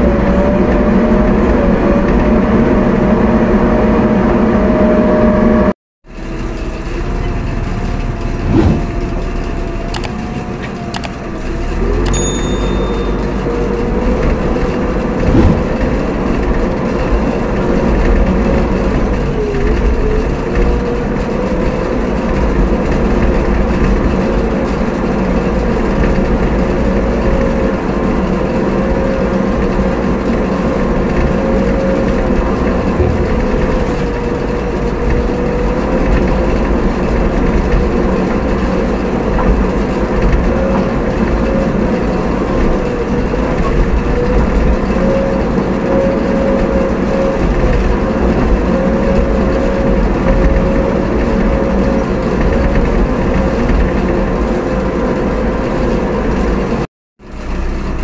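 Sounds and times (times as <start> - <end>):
heavy vehicle diesel engine driving: 0.0 - 58.0.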